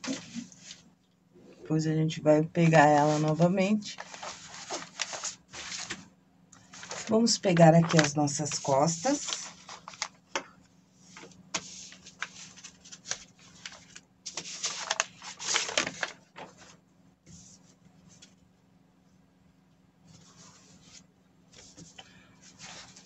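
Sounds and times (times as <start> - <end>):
paper and fabric rustling: 0.0 - 0.9, 2.6 - 10.2, 11.0 - 18.4, 20.1 - 23.0.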